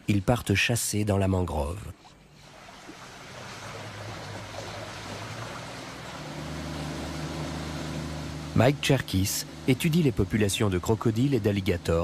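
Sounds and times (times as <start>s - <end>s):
water rushing: 1.5s - 12.0s
low engine hum: 1.9s - 12.0s.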